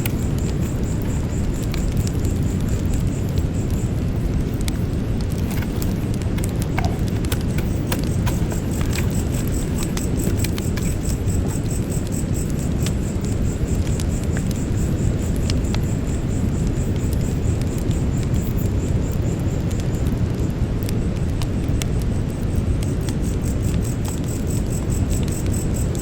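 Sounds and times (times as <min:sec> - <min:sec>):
campfire flames rumbling: 0:00.0 - 0:26.0
wood crackling and popping: 0:00.0 - 0:26.0.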